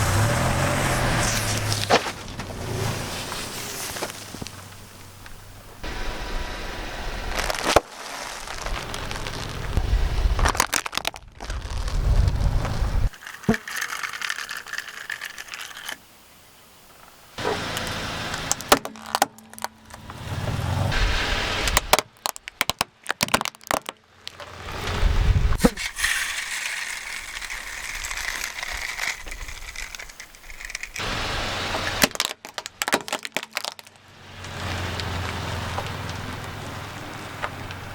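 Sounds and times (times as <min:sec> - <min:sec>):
tyres crushing crunchy objects: 0:00.0 - 0:05.8, 0:07.2 - 0:15.6, 0:17.4 - 0:37.8.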